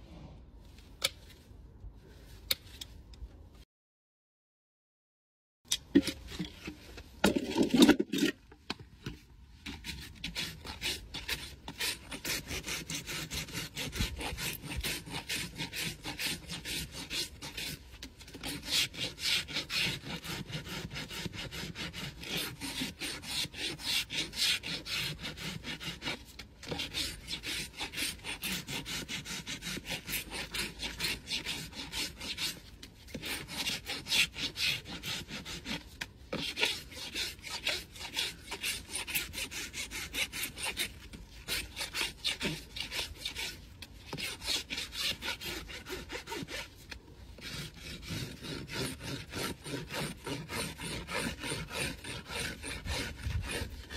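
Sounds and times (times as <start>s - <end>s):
rasp filing hoof: 9.6s - 53.9s.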